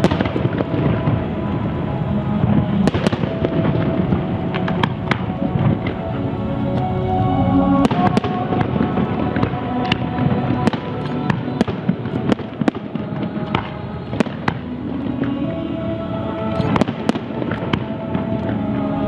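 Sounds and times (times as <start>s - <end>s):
fireworks bangs and crackles: 0.0s - 6.0s, 7.8s - 15.4s, 16.6s - 18.6s
music playing: 0.0s - 19.0s.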